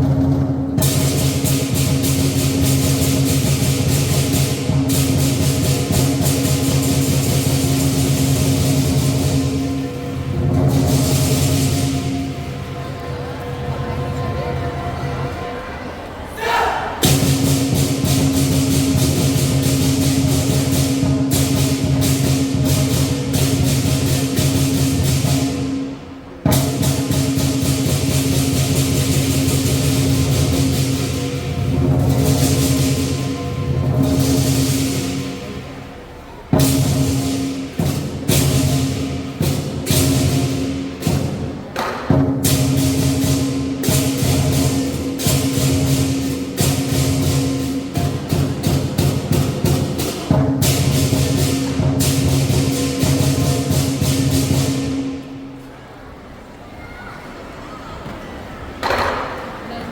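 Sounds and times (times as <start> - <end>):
drum beating: 0.0 - 14.2, 16.4 - 35.9, 36.5 - 55.7
cymbals clashing: 0.0 - 15.4, 16.3 - 55.7.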